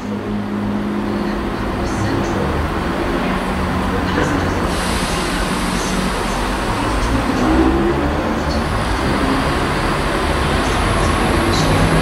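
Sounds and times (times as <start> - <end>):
diesel train engine droning: 0.0 - 12.0.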